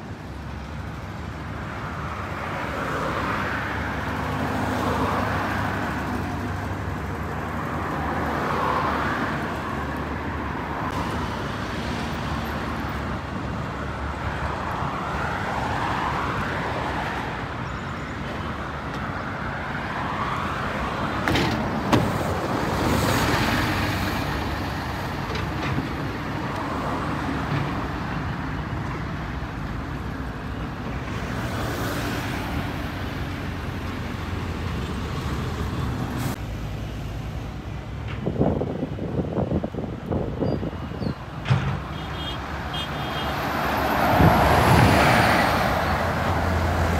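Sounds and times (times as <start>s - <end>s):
road traffic with buses: 0.0s - 46.9s.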